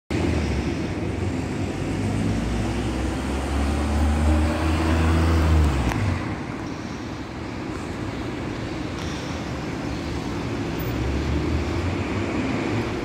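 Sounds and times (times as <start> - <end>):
vehicle engine humming: 0.1 - 13.0.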